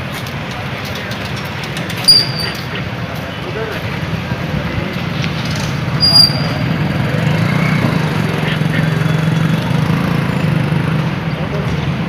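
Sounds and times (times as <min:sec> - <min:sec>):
vehicle engine running: 0:01.2 - 0:12.0.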